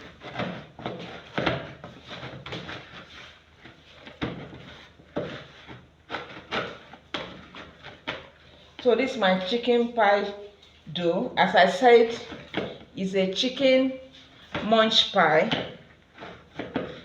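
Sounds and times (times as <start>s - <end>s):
dough kneaded by hand: 0.0s - 17.0s.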